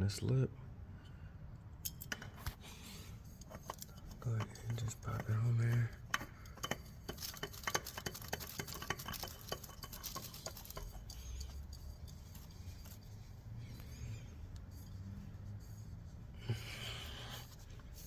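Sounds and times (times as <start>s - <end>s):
oil filter clicking and scraping: 1.8s - 18.0s
soft handling noise: 2.0s - 18.0s.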